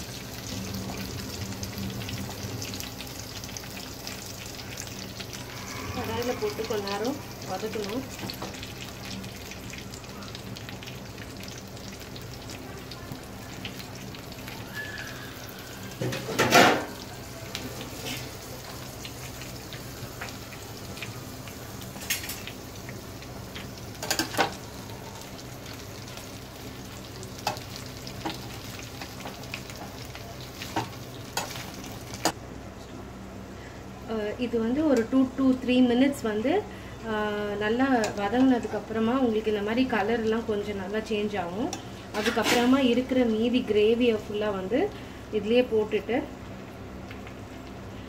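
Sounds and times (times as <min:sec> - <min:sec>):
vegetables sizzling in hot oil: 0:00.0 - 0:32.4, 0:34.7 - 0:48.0.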